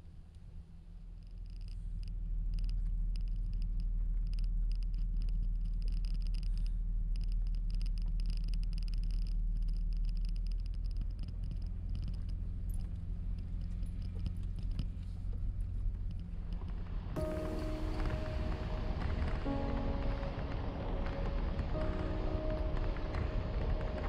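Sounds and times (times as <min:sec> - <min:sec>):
vehicle engine rumbling: 0:00.1 - 0:24.0.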